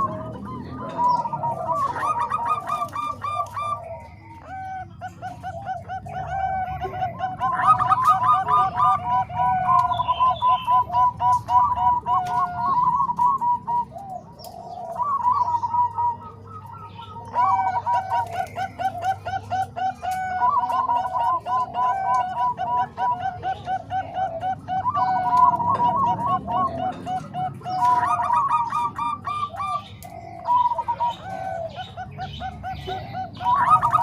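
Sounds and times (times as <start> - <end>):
doves cooing: 0.0 - 34.0.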